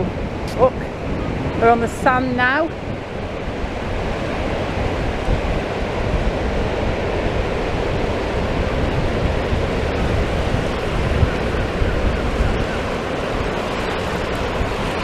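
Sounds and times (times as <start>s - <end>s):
surf washing in: 0.0s - 15.0s
wind buffeting microphone: 0.0s - 15.0s.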